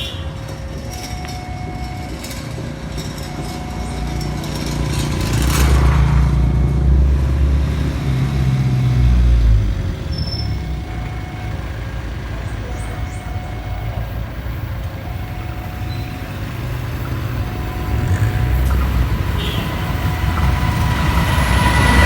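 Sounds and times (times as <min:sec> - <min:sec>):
two-tone level crossing siren: 0:00.0 - 0:07.5, 0:09.0 - 0:22.0
heavy engine rumbling past: 0:00.0 - 0:22.0.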